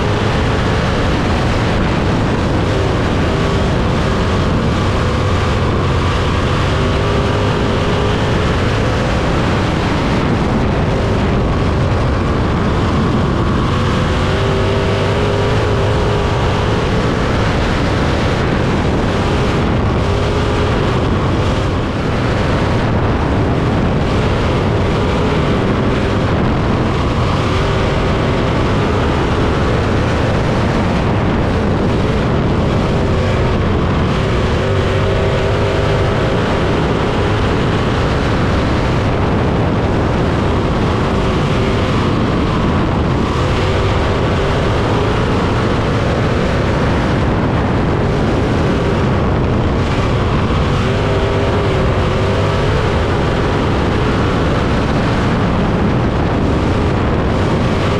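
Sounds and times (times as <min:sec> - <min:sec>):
sprint car engine racing: 0:00.0 - 0:57.9.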